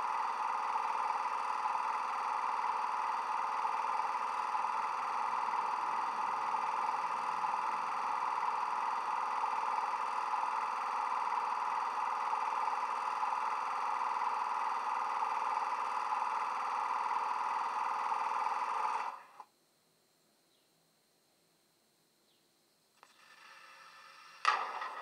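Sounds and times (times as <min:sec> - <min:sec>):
electrical hum from small speaker: 0:00.0 - 0:25.0.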